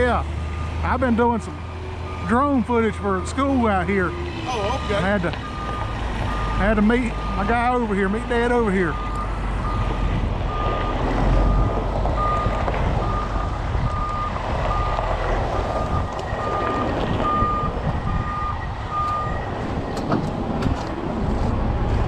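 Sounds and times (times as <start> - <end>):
truck reversing alarm beeping: 0.0 - 20.0
diesel engine rumble: 0.0 - 22.0.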